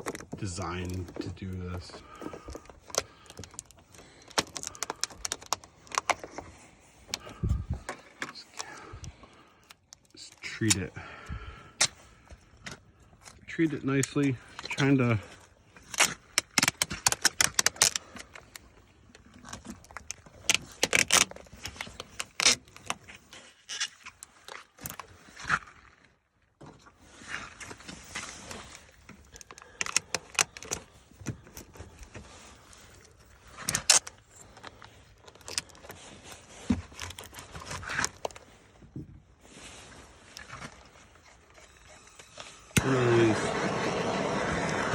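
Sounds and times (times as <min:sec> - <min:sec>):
tape clicking and crinkling: 0:00.0 - 0:25.8, 0:27.5 - 0:43.0.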